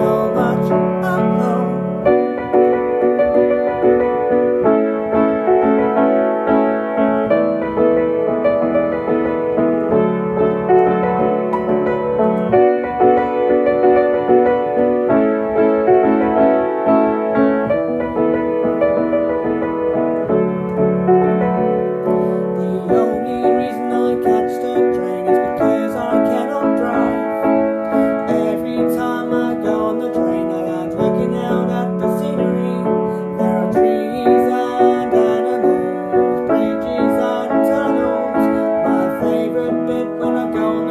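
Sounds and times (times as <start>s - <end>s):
piano playing chords: 0.0s - 40.9s.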